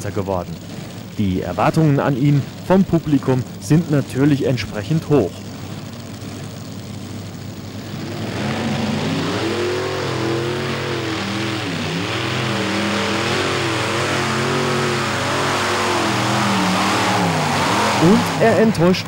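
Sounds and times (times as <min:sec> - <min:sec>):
pulling tractor engines revving: 0:00.0 - 0:19.0.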